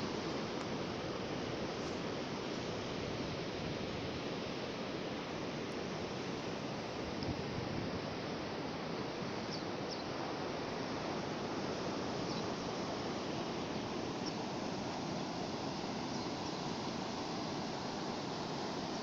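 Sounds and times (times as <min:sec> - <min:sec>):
sea surf washing on shore: 0:00.0 - 0:19.0.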